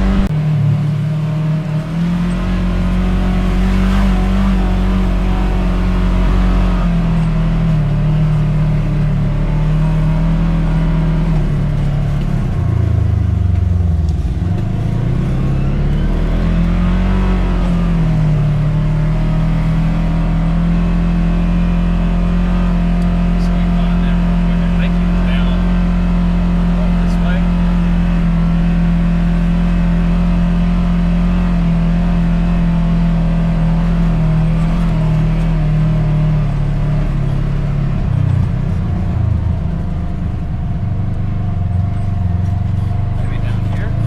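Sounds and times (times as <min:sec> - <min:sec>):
utility vehicle engine driving: 0:00.0 - 0:44.0.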